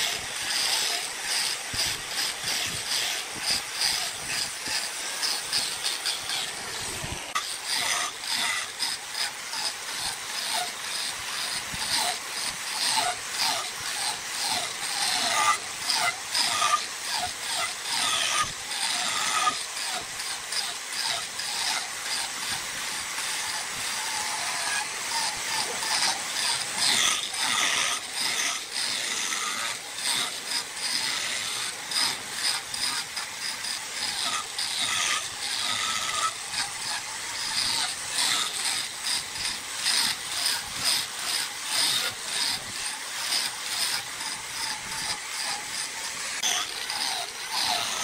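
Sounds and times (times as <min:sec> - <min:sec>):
lathe tool scraping wood: 0:00.0 - 0:48.0.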